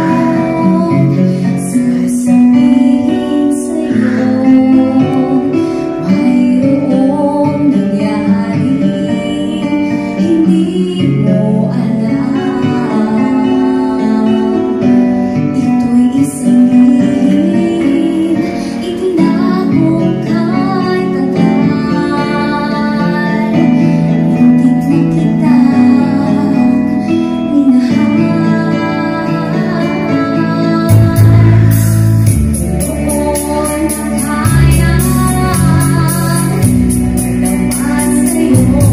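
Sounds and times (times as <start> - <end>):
guitar accompaniment: 0.0 - 38.9
woman singing slow melody: 0.0 - 38.9.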